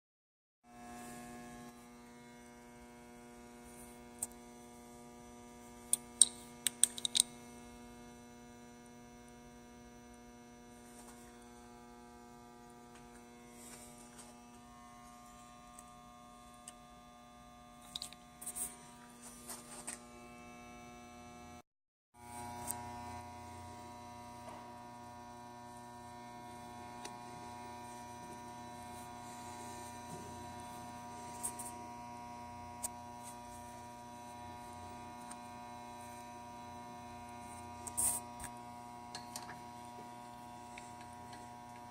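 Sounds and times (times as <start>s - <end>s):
electrical hum with steady tones: 0.7s - 21.6s, 22.2s - 41.9s.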